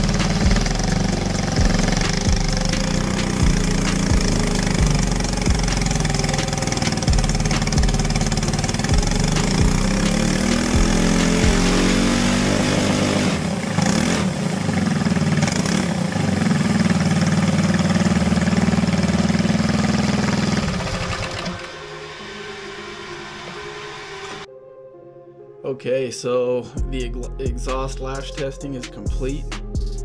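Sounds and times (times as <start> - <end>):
kart engine revving: 0.0 - 24.5.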